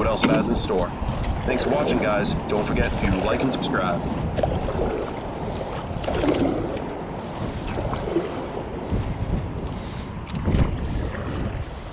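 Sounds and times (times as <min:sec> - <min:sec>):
water sounds: 0:00.0 - 0:11.9
water splashes: 0:00.0 - 0:11.9
wind rumbling on microphone: 0:00.0 - 0:11.9.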